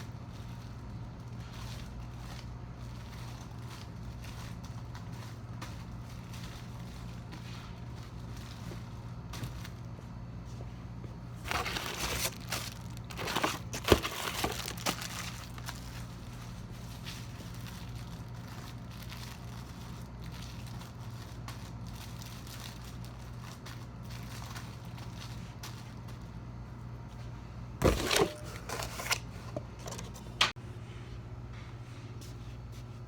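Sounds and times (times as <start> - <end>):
crinkling and rustling handling noise: 0.0 - 30.6
steady low hum: 0.0 - 33.0.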